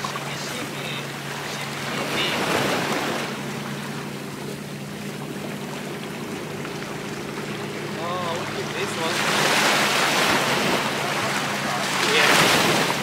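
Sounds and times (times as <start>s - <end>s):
waves breaking over rocks: 0.0s - 13.0s.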